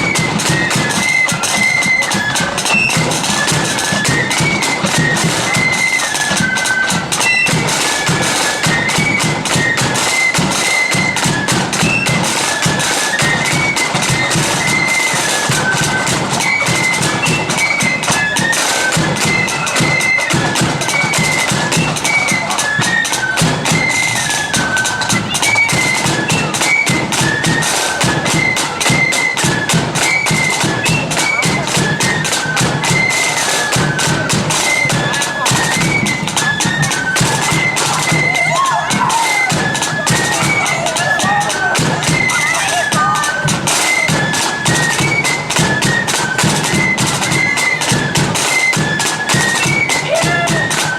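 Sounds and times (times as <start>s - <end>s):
high melody on wind instruments: 0.0s - 50.9s
rapid drumming: 0.0s - 50.9s.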